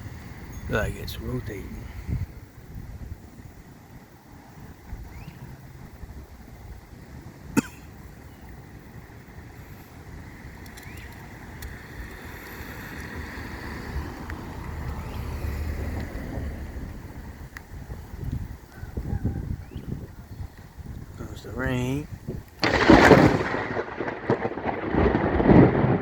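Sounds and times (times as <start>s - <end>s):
wind buffeting microphone: 0.0s - 7.5s, 8.1s - 26.0s.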